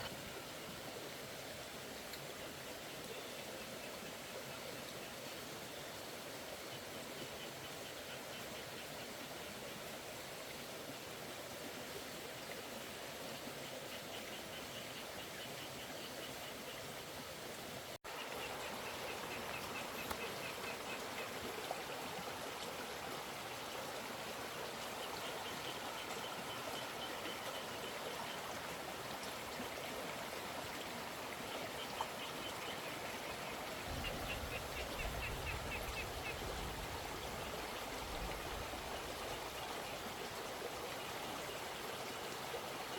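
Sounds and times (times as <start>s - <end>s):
flowing water rushing: 0.0s - 42.9s.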